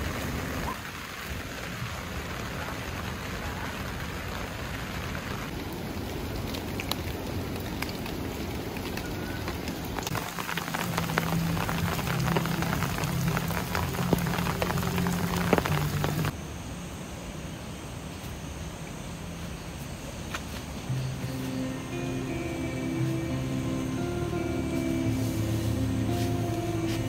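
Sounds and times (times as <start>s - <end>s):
rain falling: 0.0s - 16.4s, 20.9s - 27.0s.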